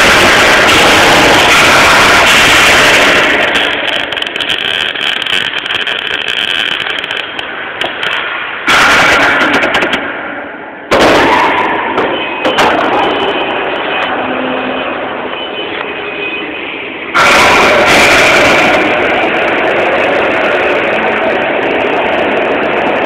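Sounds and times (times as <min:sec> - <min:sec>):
welding arc crackling: 0:00.0 - 0:16.0, 0:17.1 - 0:23.0.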